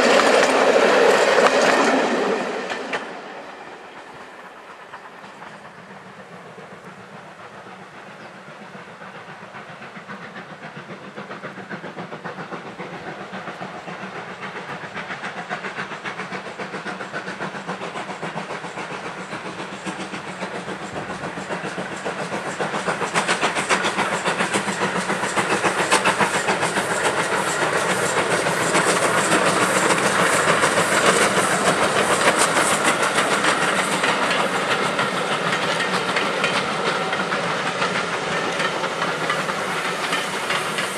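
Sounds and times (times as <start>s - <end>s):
steam locomotive chuffing: 0.0s - 40.9s
train coaches passing: 0.0s - 40.9s.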